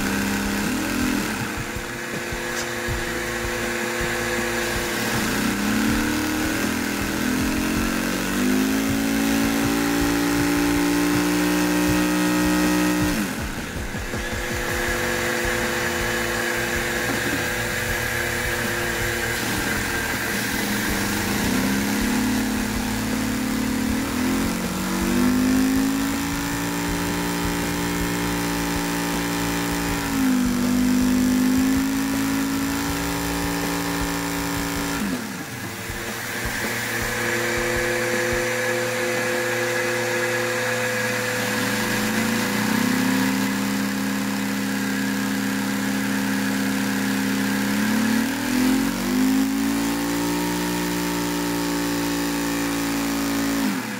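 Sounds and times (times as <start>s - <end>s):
small engine revving: 0.0s - 53.9s
vacuum cleaner running: 0.0s - 53.9s.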